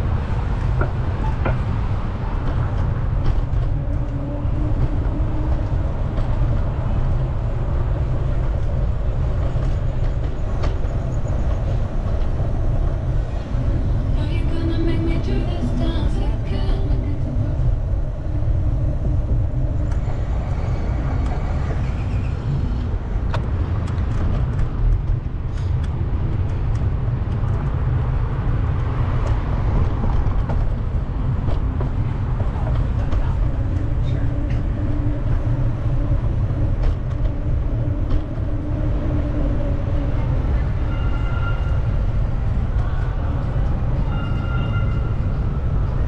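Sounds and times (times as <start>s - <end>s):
city traffic: 0.0s - 46.0s
wind buffeting microphone: 0.0s - 46.0s.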